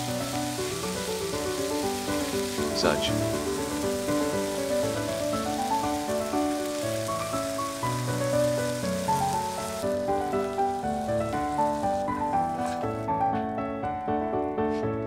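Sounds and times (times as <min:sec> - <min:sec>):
food sizzling in hot oil: 0:00.0 - 0:13.4
slow melodic background music: 0:00.0 - 0:15.0.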